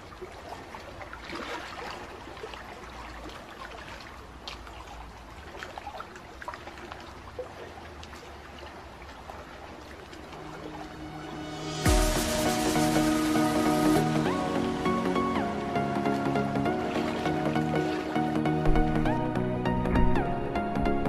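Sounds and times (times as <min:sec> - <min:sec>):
water drips and splashes: 0:00.0 - 0:19.2
water trickling and lapping: 0:00.0 - 0:21.0.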